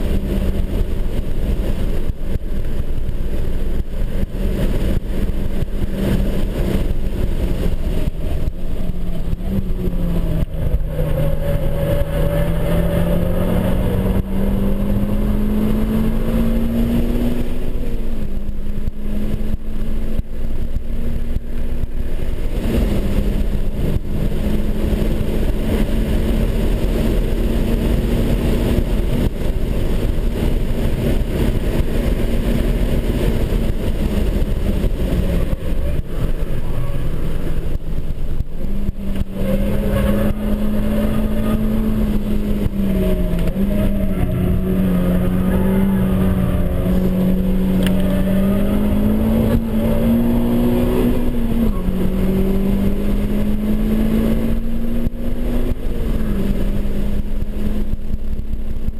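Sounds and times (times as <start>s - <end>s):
race car engine at high revs: 0.0s - 58.9s
road and wind rumble: 0.0s - 58.9s.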